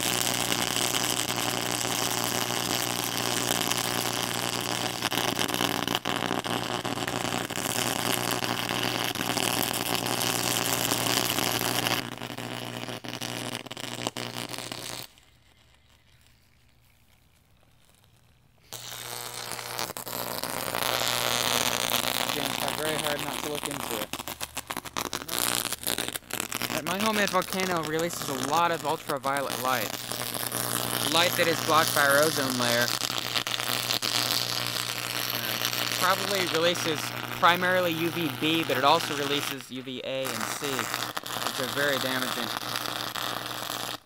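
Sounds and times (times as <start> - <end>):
electric arc buzzing and crackling: 0.0 - 44.0.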